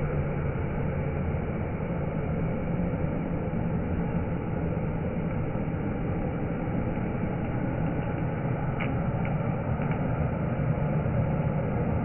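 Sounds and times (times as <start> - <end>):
fire crackles: 0.0 - 12.0.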